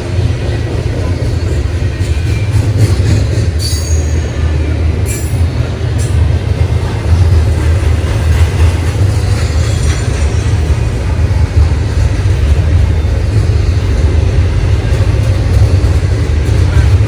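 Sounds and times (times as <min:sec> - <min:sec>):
train cars rolling past: 0:00.0 - 0:17.0.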